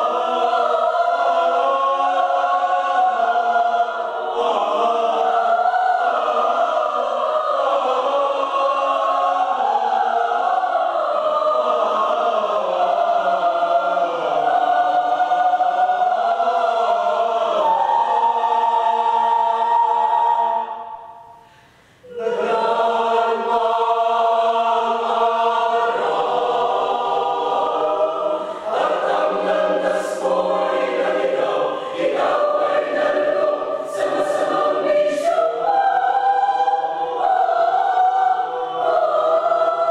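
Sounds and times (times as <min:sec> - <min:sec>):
mixed choir singing: 0:00.0 - 0:21.4, 0:22.0 - 0:39.9.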